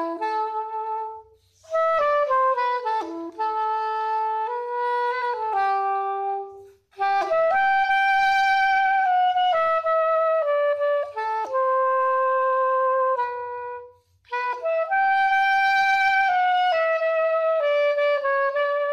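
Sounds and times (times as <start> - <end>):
soprano saxophone melody: 0.0 - 18.9.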